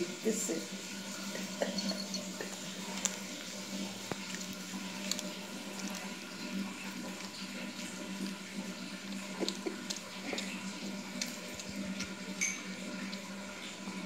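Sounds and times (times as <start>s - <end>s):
cat chewing bone: 1.4s - 14.0s.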